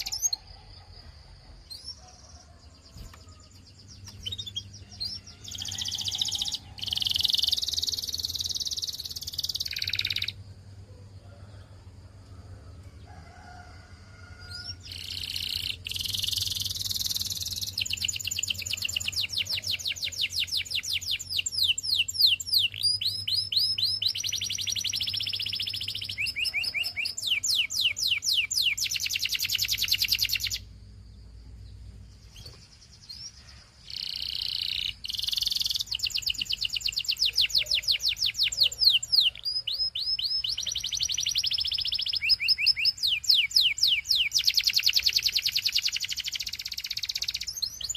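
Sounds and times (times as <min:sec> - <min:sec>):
canary singing trills: 0:00.0 - 0:11.6, 0:14.4 - 0:30.8, 0:31.6 - 0:47.9.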